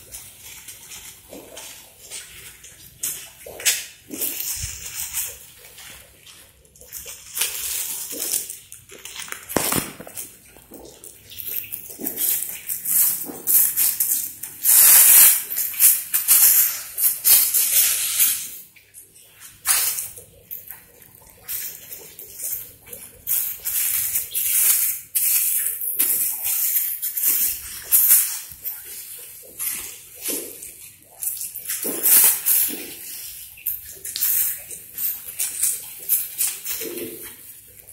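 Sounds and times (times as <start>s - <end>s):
plastic bags crinkling: 0.0s - 18.6s, 19.6s - 37.9s.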